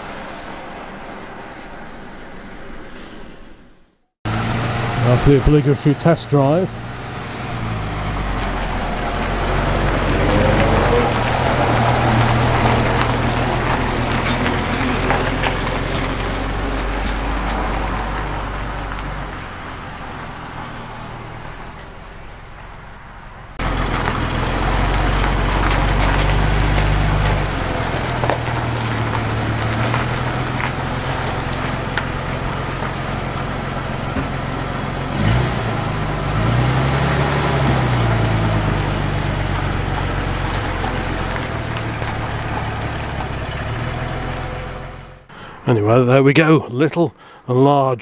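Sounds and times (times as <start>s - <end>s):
truck engine running: 4.2s - 45.7s
tyres crunching on gravel: 4.3s - 46.6s.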